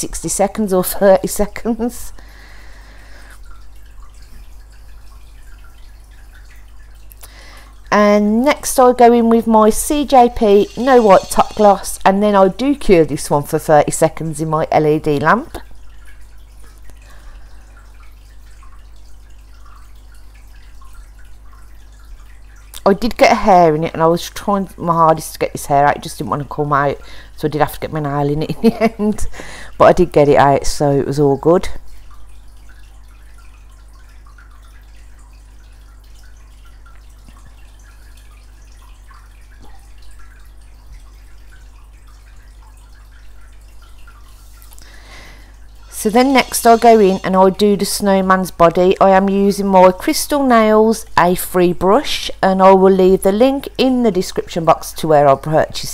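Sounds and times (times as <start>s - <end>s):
low electrical hum: 0.0s - 55.9s.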